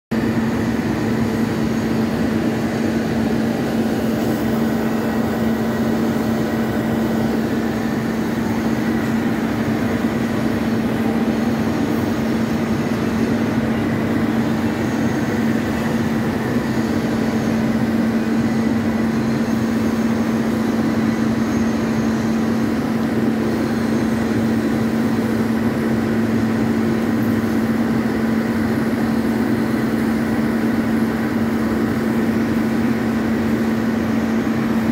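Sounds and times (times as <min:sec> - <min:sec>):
metal lathe humming: 0:00.2 - 0:34.9.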